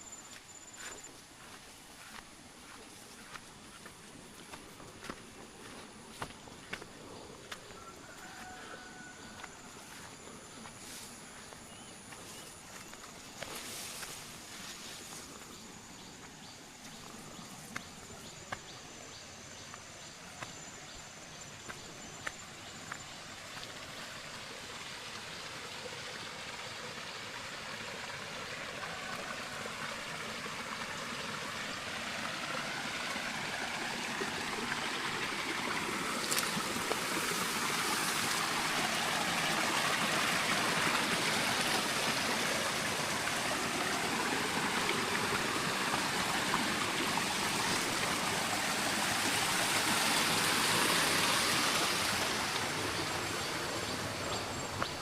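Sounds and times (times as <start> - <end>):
water rushing: 0.0 - 18.9, 21.7 - 55.0.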